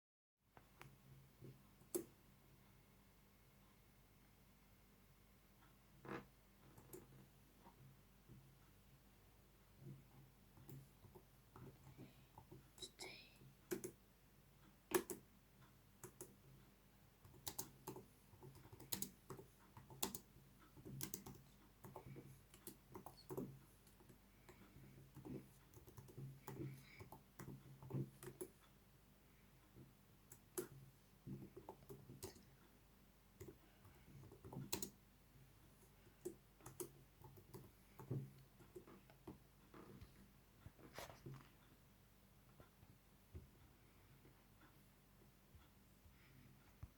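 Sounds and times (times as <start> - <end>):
faint clicks and taps: 0.5 - 2.6, 5.6 - 9.0, 9.6 - 46.9.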